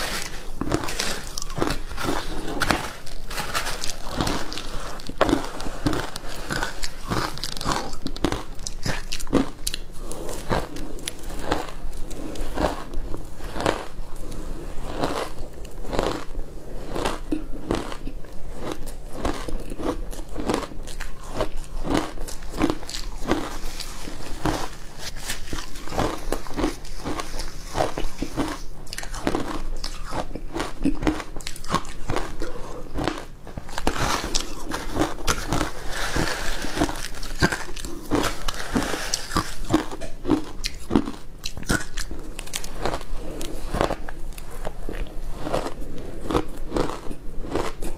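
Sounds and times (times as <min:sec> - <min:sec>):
crunching and chewing ice: 0:00.0 - 0:47.9.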